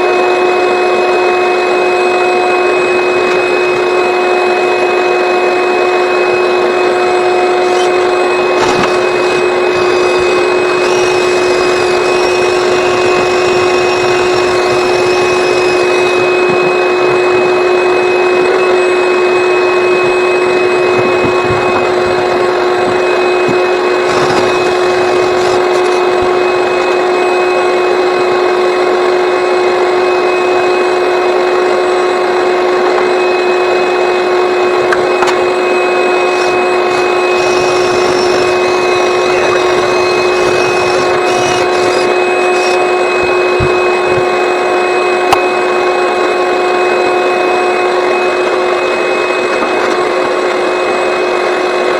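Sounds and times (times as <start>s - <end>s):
vacuum running with whine: 0.0s - 51.9s.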